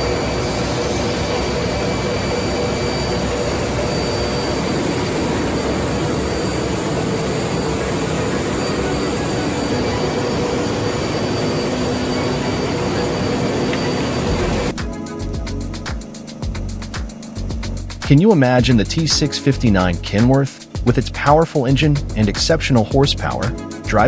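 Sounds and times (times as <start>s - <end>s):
log-processing machinery droning: 0.0s - 24.0s.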